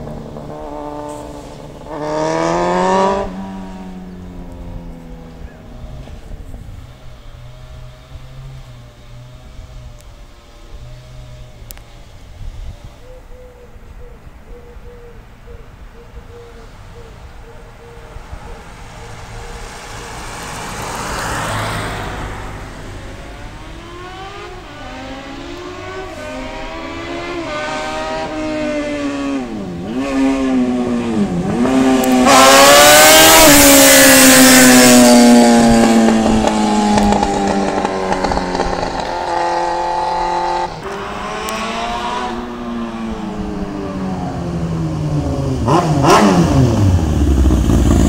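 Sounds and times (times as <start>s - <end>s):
motorcycle engine revving: 0.0s - 13.0s, 18.2s - 48.0s.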